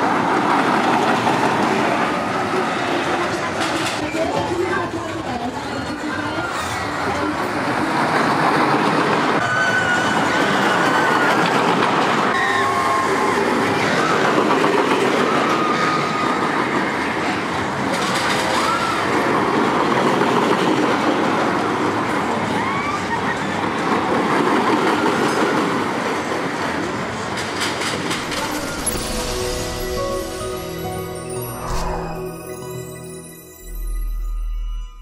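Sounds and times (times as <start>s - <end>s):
roller coaster wheels rumbling: 0.0s - 33.2s.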